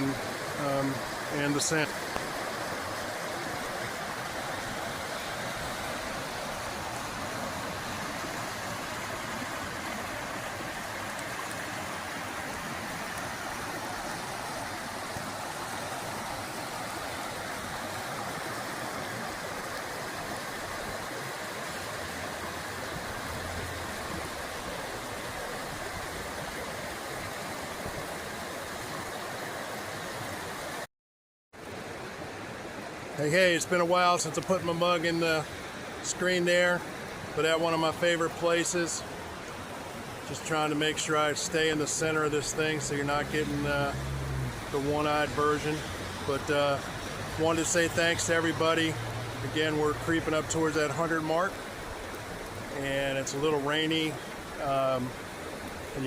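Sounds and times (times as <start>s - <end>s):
creek water rushing over rocks: 0.0s - 30.9s, 31.6s - 56.0s.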